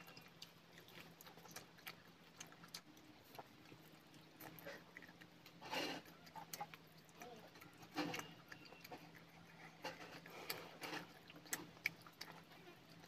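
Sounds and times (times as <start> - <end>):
faint steady hum: 0.0 - 13.0
person chewing food: 0.0 - 13.0.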